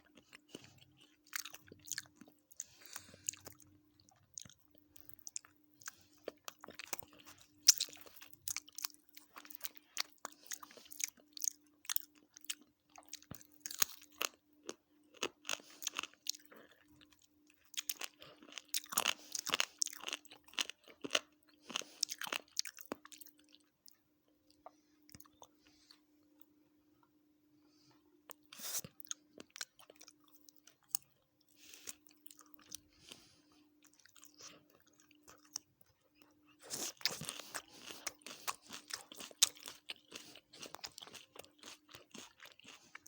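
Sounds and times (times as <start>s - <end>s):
chewing and crunching: 0.0s - 26.5s, 28.3s - 43.0s
faint steady hum: 0.0s - 43.0s.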